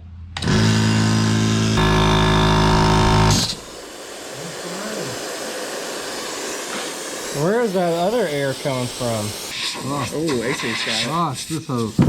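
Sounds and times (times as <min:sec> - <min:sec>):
air compressor running: 0:00.4 - 0:12.0
air hissing from hose leaks: 0:01.8 - 0:12.0
short burst of air: 0:01.8 - 0:12.0.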